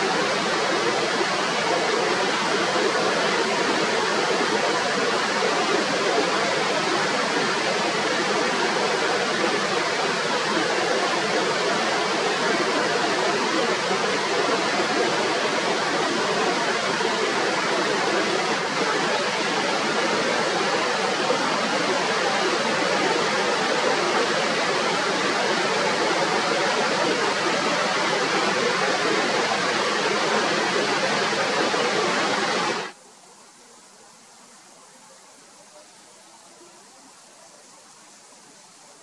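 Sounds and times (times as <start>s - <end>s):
river rapids rushing over rocks: 0.0s - 39.0s.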